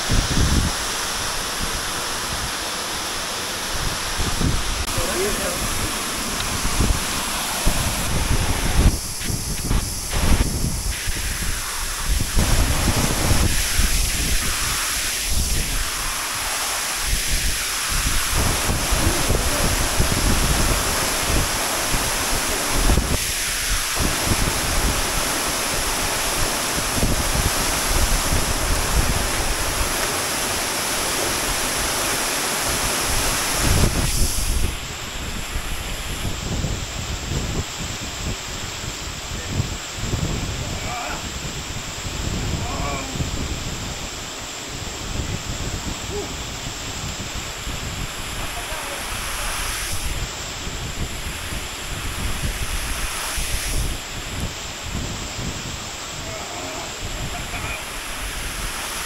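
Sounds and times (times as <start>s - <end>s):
wind buffeting microphone: 0.0s - 2.6s, 3.6s - 16.3s, 17.0s - 30.6s, 32.7s - 59.0s
waterfall rushing: 0.0s - 36.6s, 47.4s - 54.7s, 55.4s - 59.0s.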